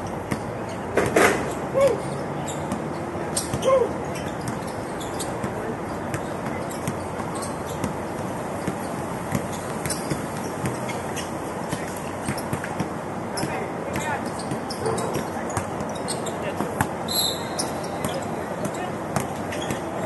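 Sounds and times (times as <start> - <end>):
shoe squeaks: 0.0 - 12.7, 13.3 - 20.0.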